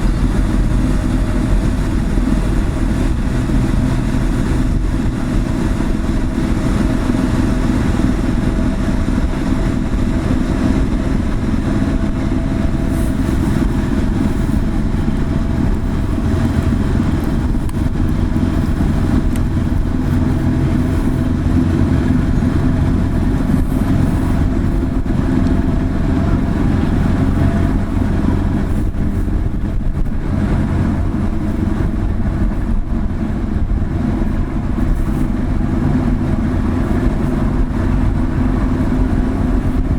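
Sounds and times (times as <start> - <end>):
ship diesel engines droning: 0.0 - 39.9.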